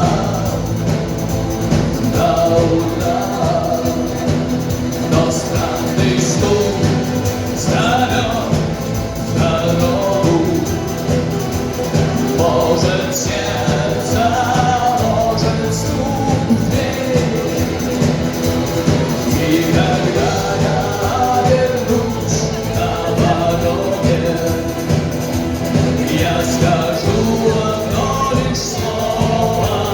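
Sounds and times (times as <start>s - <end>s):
live rock band: 0.0s - 29.9s.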